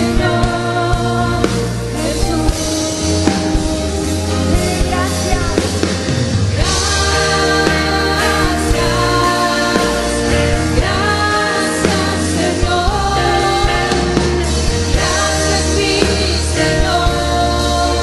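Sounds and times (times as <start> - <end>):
woman singing: 0.0 - 5.8, 6.6 - 18.0
acoustic guitar: 0.0 - 18.0
bass and drums: 0.0 - 18.0
keyboard: 0.0 - 18.0.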